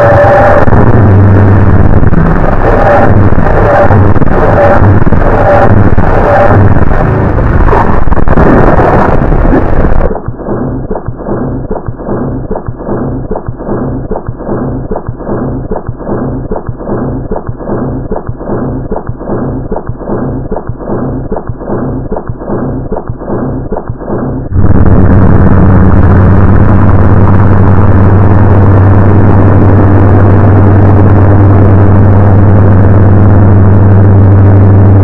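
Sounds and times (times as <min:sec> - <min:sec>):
distorted logo soundtrack: 0:00.0 - 0:35.0.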